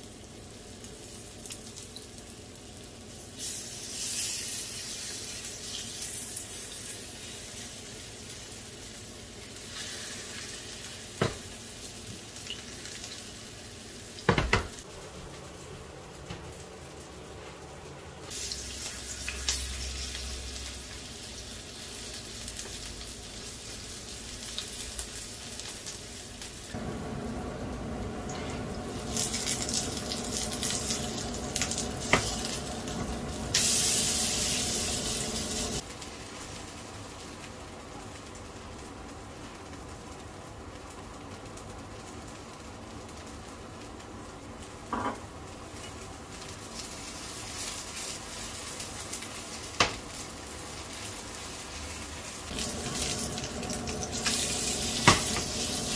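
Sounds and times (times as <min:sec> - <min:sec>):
pancakes sizzling in oil: 0:00.0 - 0:15.9, 0:18.3 - 0:55.9.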